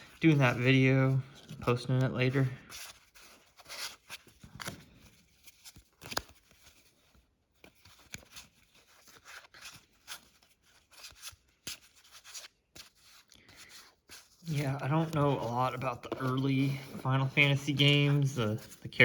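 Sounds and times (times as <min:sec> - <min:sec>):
cards and packaging rustling: 0:00.0 - 0:19.0.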